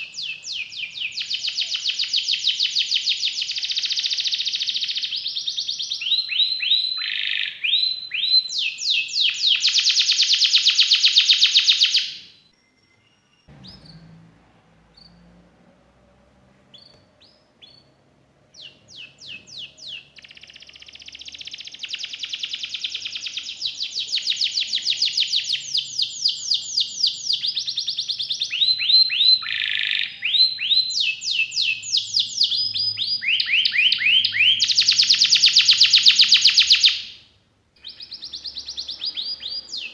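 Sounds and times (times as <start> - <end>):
canary trilling: 0.0 - 12.3, 14.9 - 37.2, 37.8 - 39.9.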